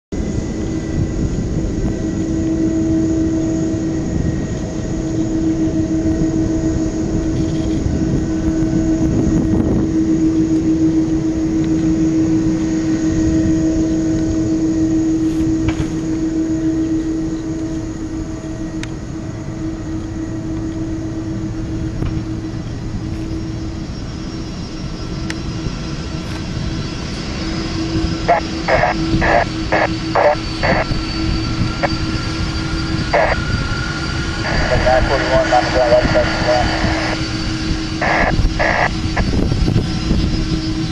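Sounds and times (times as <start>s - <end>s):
jet engines running: 0.1s - 40.9s.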